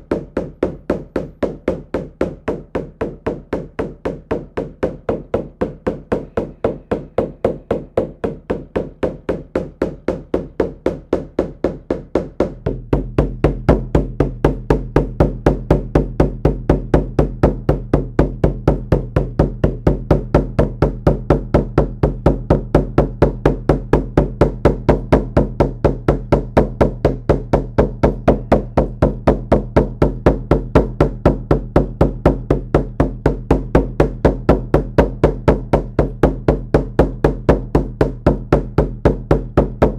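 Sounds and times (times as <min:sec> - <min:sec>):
frame drum beating: 0:00.0 - 0:39.9.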